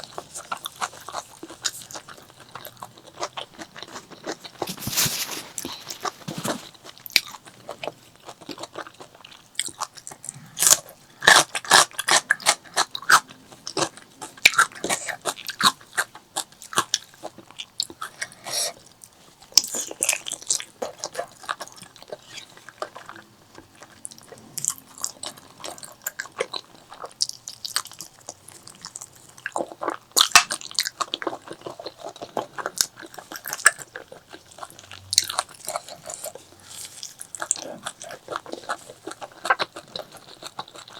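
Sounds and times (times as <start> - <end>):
person chewing and biting food: 0.0 - 40.9.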